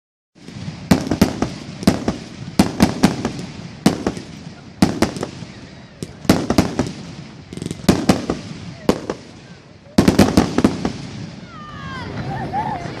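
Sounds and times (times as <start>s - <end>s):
fireworks bangs: 0.4s - 12.4s.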